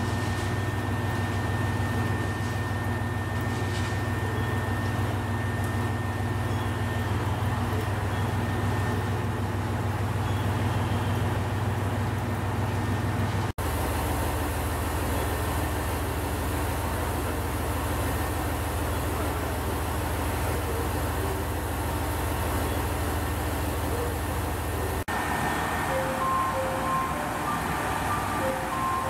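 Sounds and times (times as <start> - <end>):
diesel train engine drone: 0.0 - 29.0
station platform hum: 0.0 - 29.0.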